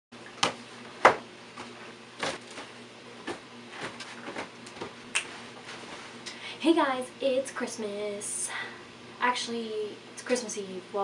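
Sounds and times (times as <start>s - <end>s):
faint steady hum: 0.2s - 11.0s.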